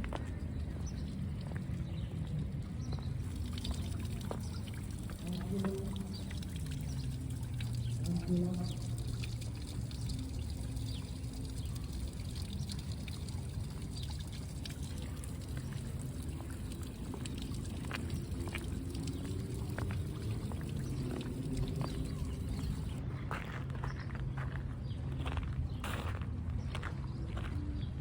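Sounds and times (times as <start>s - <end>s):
water running and splashing: 0.0s - 23.0s
constant low hum: 0.0s - 28.0s.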